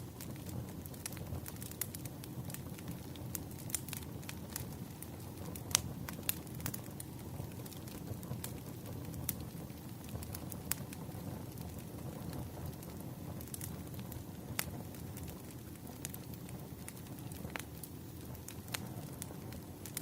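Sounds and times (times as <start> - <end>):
firewood crackling and popping: 0.0 - 20.0
low rush of fire: 0.0 - 20.0.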